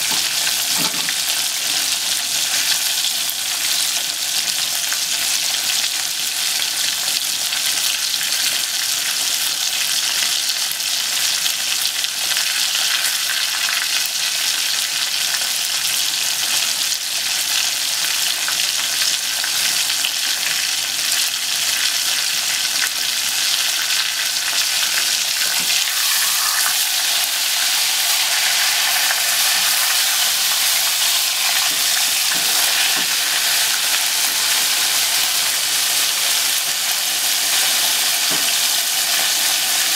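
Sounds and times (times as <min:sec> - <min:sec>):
oil sizzling while deep-frying: 0:00.0 - 0:39.9.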